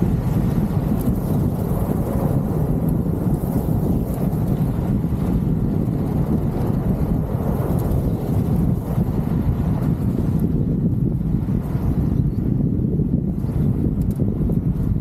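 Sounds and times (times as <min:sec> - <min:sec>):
vehicle driving on dirt track: 0:00.0 - 0:15.0
wind buffeting microphone: 0:00.0 - 0:15.0.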